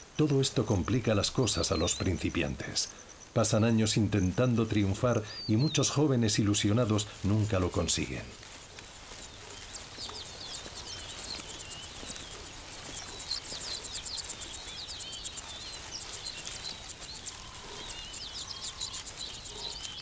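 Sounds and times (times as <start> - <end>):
wild birds chirping: 0.0 - 20.0.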